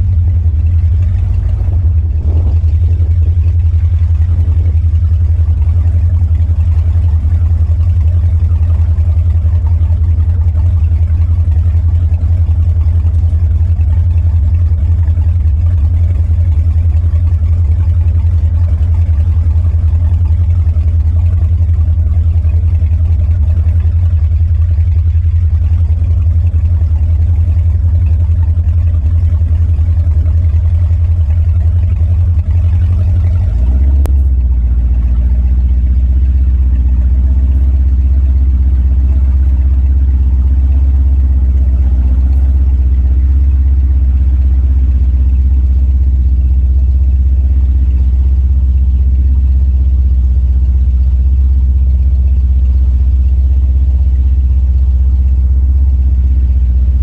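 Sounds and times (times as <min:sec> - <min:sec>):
powerboat engine droning: 0:00.0 - 0:57.0.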